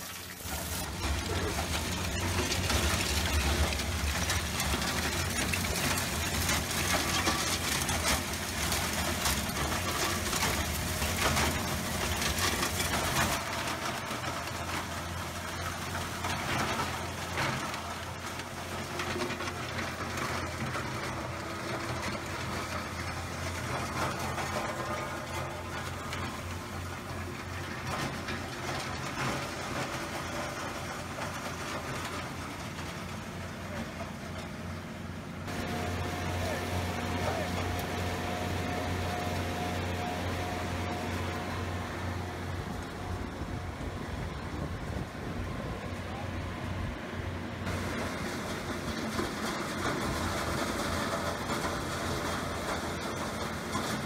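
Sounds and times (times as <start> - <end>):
hammer mill motor humming: 0.0 - 54.0.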